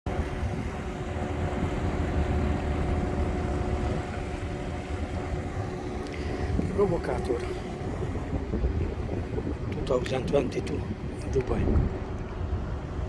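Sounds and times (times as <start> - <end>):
boat engine running: 0.1 - 13.0.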